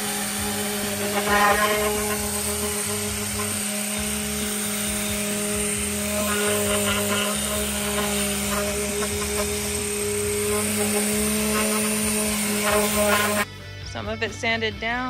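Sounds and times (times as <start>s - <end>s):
orbital sander humming: 0.0s - 13.5s.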